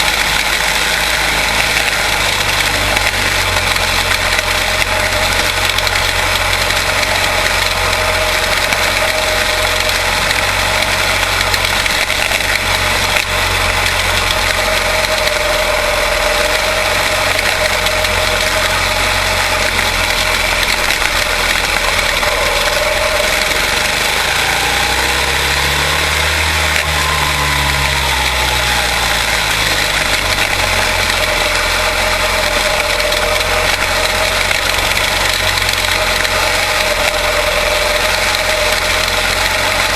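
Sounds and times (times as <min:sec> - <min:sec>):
race car engines droning: 0:00.0 - 0:39.9
race car passing close: 0:00.0 - 0:39.9.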